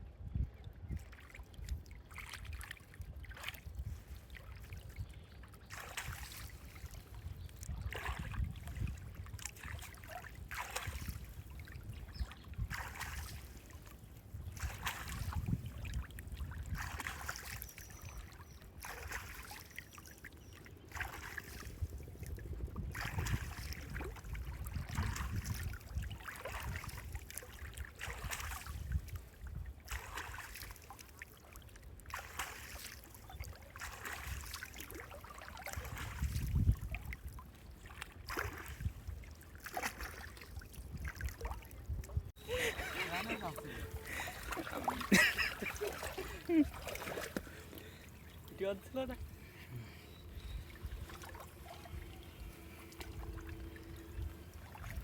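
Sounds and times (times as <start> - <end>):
water sloshing and splashing: 0.8 - 55.0.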